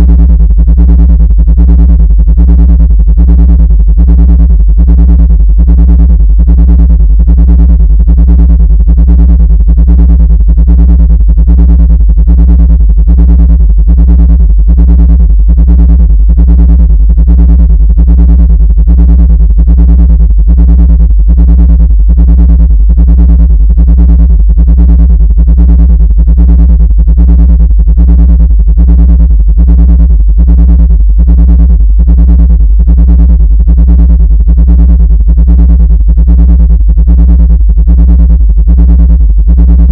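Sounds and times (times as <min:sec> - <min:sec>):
pulsing distorted synthesizer drone: 0:00.0 - 0:39.9.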